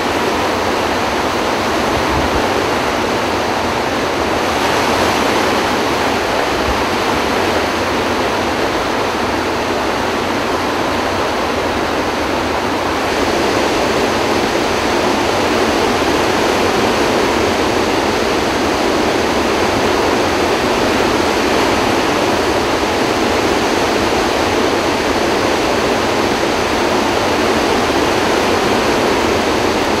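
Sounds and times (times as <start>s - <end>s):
floodwater rushing through spillway: 0.0s - 30.0s.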